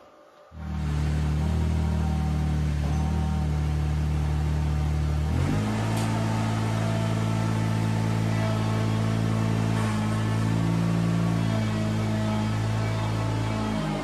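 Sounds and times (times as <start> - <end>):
tractor engine running: 0.6 - 14.0.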